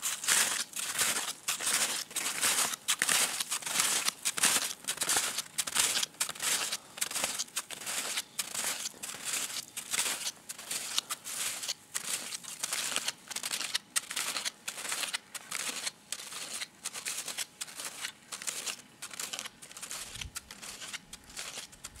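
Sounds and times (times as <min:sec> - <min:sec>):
snowshoe footsteps crunching snow: 0:00.0 - 0:21.8.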